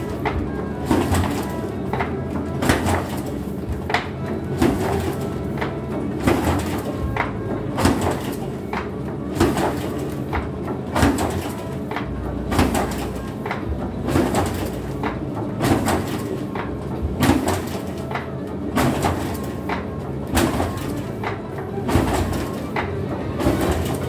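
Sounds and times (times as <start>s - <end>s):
laminating machine humming: 0.0s - 24.0s.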